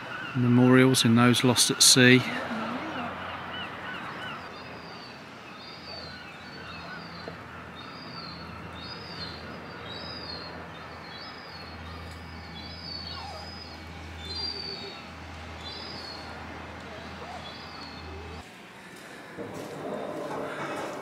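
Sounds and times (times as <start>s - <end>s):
small birds chirping: 0.1s - 18.4s
low outdoor rumble: 2.4s - 21.0s.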